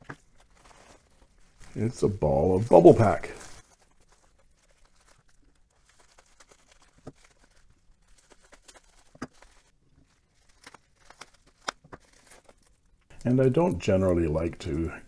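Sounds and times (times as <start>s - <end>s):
bubble wrap crinkling: 0.0s - 14.9s.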